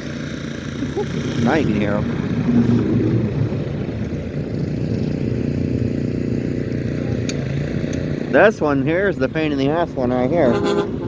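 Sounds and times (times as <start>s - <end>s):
truck engines droning: 0.0s - 11.0s.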